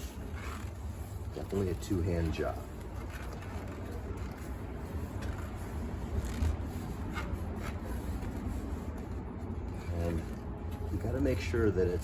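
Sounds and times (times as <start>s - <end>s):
rubber tire rubbing: 0.0s - 11.5s.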